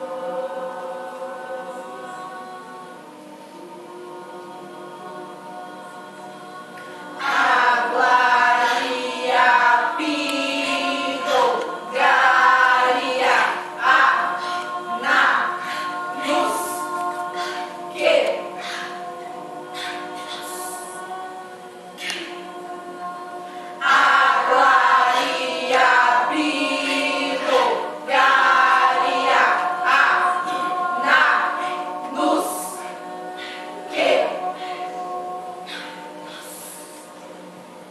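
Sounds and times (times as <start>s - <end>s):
choir singing: 0.0s - 37.9s.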